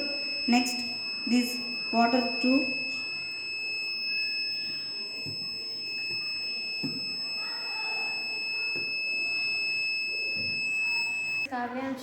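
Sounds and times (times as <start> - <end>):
alarm buzzer high-pitched tone: 0.0 - 11.5.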